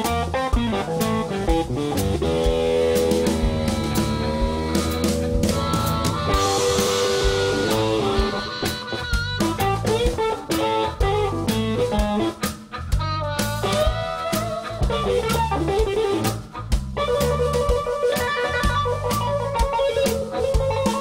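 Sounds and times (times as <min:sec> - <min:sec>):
low accompaniment: 0:00.0 - 0:19.7
drum kit: 0:00.0 - 0:21.0
electric guitar lead line: 0:00.0 - 0:21.0.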